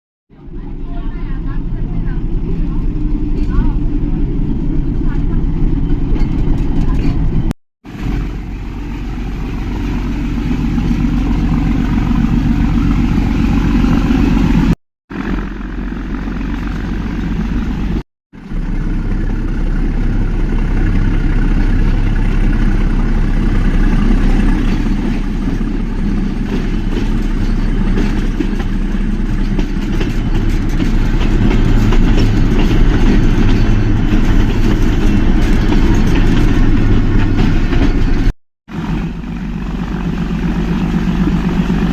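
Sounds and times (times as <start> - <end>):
train rumbling and rattling on track: 0.3 - 41.9.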